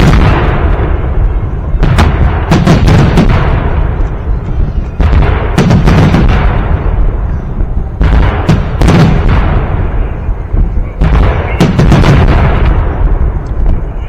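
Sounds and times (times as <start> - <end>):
fireworks booming: 0.0 - 14.0
low rumble of echo: 0.0 - 14.0.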